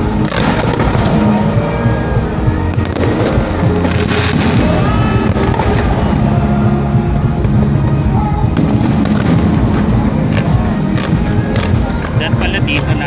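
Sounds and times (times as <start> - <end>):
firecrackers crackling: 0.0 - 13.0
music playing: 0.0 - 13.0.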